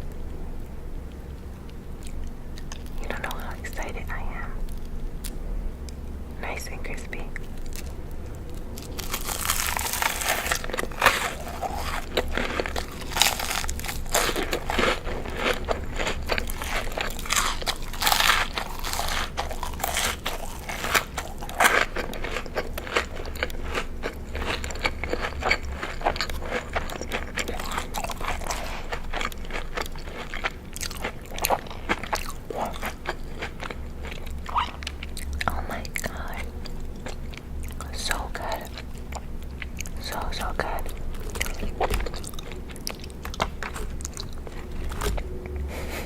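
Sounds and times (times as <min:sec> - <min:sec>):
crunchy food chewing: 0:00.0 - 0:46.0.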